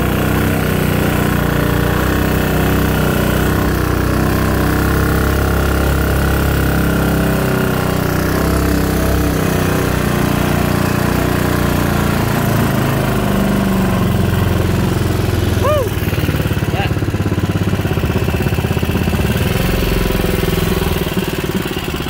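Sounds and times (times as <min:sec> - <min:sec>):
single-cylinder engine running: 0:00.0 - 0:22.0.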